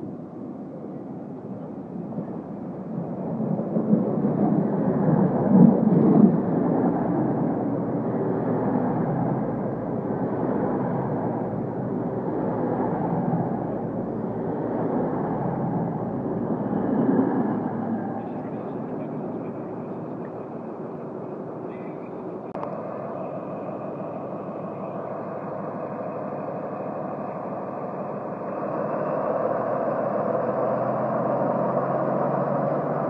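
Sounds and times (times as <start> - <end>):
diesel train passing: 0.0 - 33.0
wheels rumbling on rails: 0.0 - 33.0.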